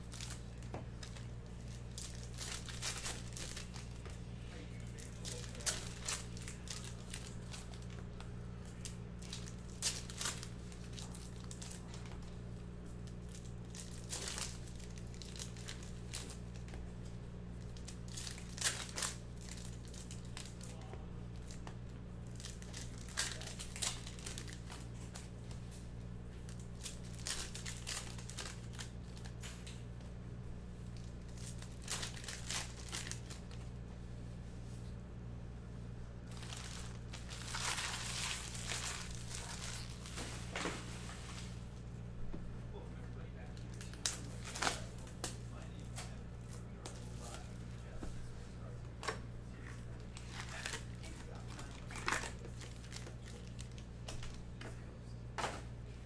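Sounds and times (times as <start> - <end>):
wrappers tearing and crinkling: 0.0 - 4.1, 4.7 - 16.8, 17.6 - 25.6, 26.4 - 29.8, 30.9 - 33.7, 36.2 - 41.7, 43.3 - 48.0, 48.6 - 54.4
steady low hum: 0.0 - 56.0.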